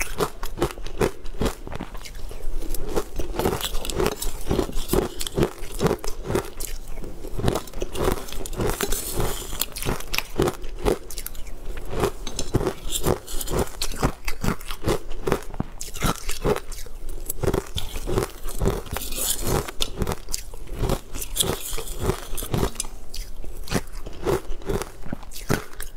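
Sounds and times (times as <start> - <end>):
chewing and crunching food: 0.0 - 25.9.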